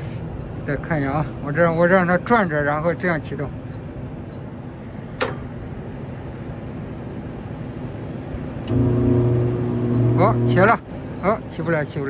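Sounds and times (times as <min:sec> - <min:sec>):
stalled fan motor humming: 0:00.0 - 0:12.0.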